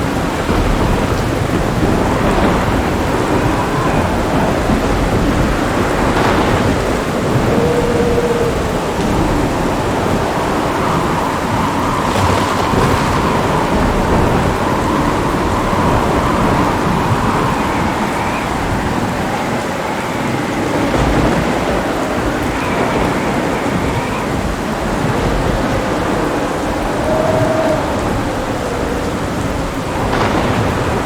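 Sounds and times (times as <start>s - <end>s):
heavy rain pouring: 0.0s - 31.0s
low rolling thunder: 0.0s - 31.0s.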